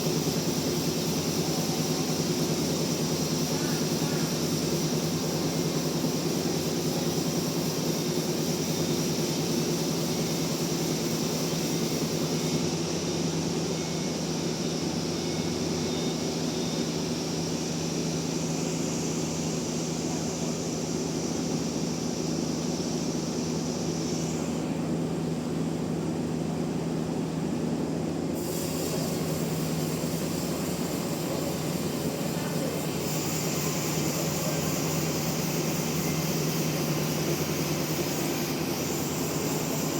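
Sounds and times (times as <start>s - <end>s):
machinery hiss: 0.0s - 25.4s, 28.3s - 39.9s
machinery low hum: 0.0s - 39.9s.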